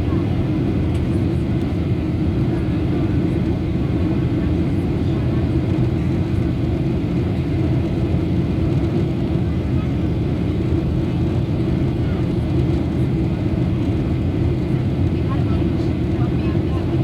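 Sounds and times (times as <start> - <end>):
airliner cabin engine noise: 0.0 - 17.0.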